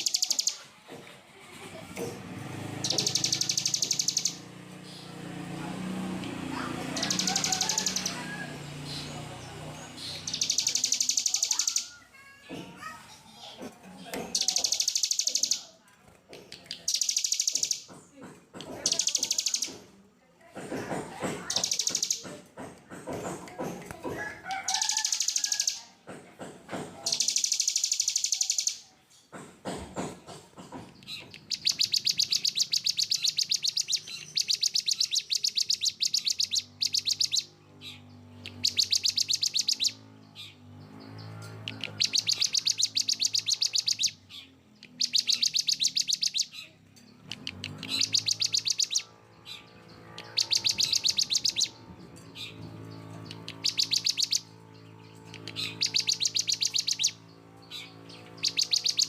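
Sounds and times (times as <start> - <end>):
songbird harsh rapid notes: 0.0 - 0.6, 2.4 - 13.6, 14.2 - 15.7, 16.6 - 17.9, 18.7 - 19.9, 20.9 - 22.3, 26.9 - 28.9, 30.0 - 59.0.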